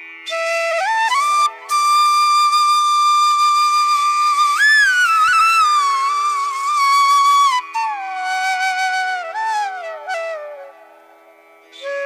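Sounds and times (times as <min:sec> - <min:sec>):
flute melody: 0:00.3 - 0:11.0, 0:11.8 - 0:12.0.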